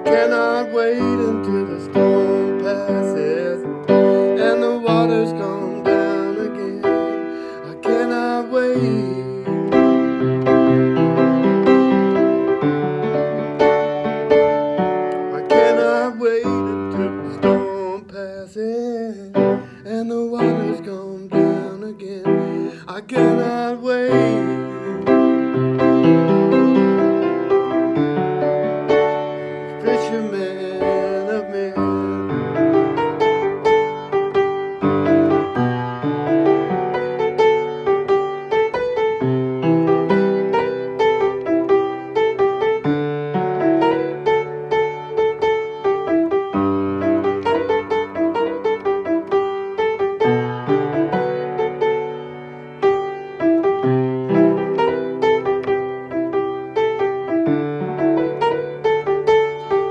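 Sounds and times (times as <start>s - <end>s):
solo piano chords: 0.0s - 59.9s.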